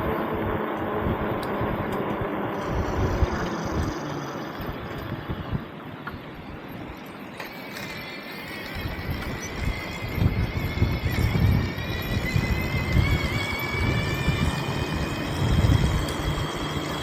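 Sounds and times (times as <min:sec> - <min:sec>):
wind buffeting microphone: 0:00.0 - 0:07.4, 0:08.4 - 0:17.0.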